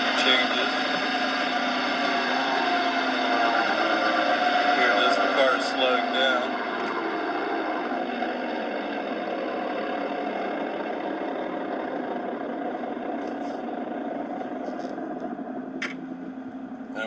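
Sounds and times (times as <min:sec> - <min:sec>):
car drivetrain noise: 0:00.0 - 0:17.0
road noise: 0:00.0 - 0:17.0.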